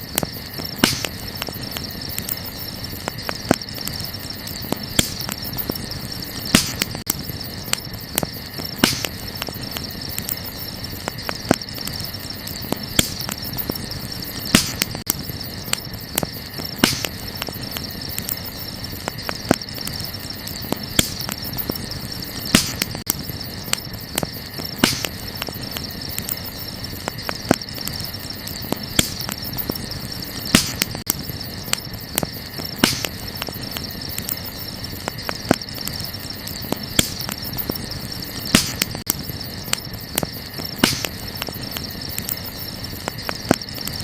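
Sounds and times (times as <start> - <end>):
wood campfire crackling: 0.0 - 44.0.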